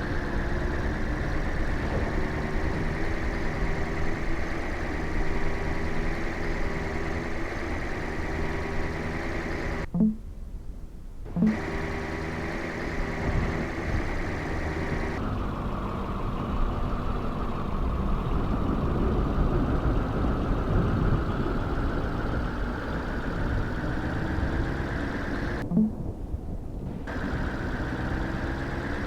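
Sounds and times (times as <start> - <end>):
vehicle engine hum: 0.0 - 10.2, 11.2 - 29.0
road and wind noise: 0.0 - 29.0.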